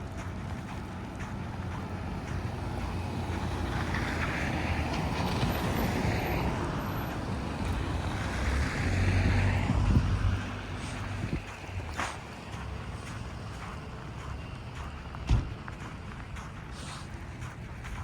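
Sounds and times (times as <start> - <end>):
vehicle passing on snow: 0.0 - 18.0.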